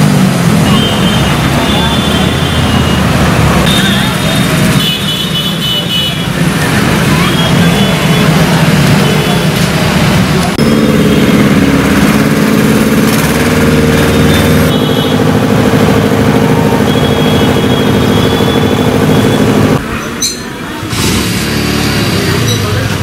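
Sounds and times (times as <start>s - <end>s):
engine running steadily: 0.0s - 19.9s.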